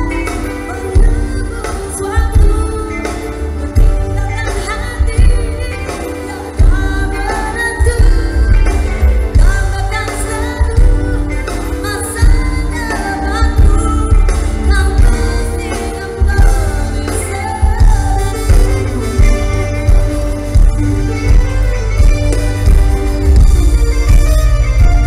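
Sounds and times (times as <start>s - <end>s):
woman singing: 0.0s - 21.4s
live band playing: 0.0s - 25.0s.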